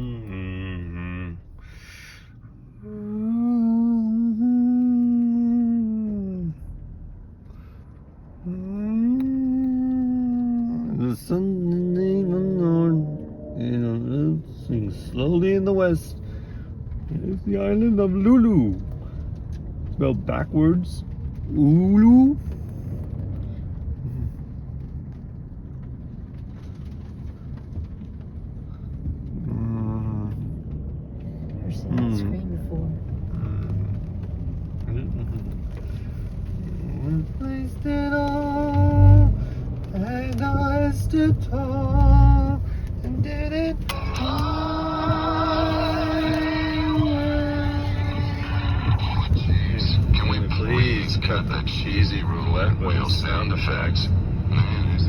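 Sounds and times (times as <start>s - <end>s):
car engine and tyres rumbling: 0.0s - 55.0s
faint road noise: 0.0s - 55.0s.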